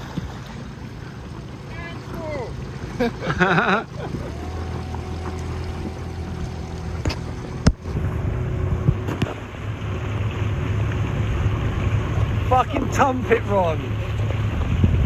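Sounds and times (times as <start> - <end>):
motorboat engine humming: 0.0 - 15.0
water noise: 0.0 - 15.0
wind: 0.0 - 15.0.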